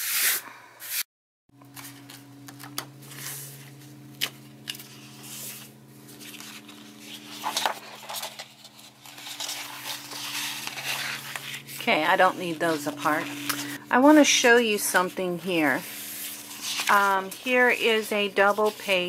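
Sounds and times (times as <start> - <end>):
paper pages rustling: 1.6 - 13.8, 15.8 - 19.0
steady low hum: 1.6 - 19.0.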